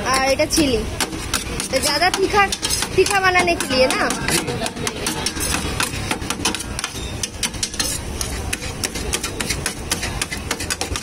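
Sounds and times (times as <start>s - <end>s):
metal utensils scraping steel tray: 0.0s - 11.0s.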